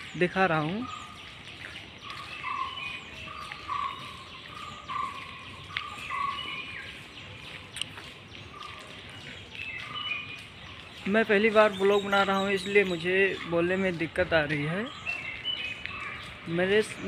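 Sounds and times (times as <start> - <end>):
bird calling in clear notes: 0.0 - 17.0
faint street background hum: 0.0 - 17.0.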